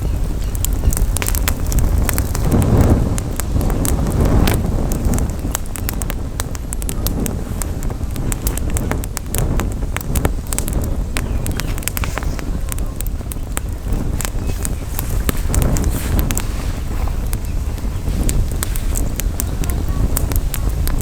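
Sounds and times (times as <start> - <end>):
campfire crackling and popping: 0.0 - 21.0
wind rumble on microphone: 0.0 - 21.0.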